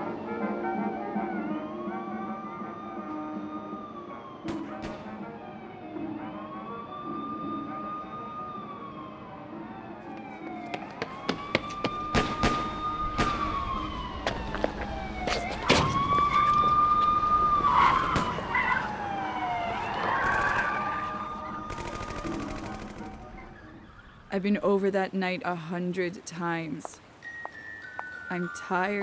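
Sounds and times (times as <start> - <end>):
siren wailing: 0.0 - 24.5.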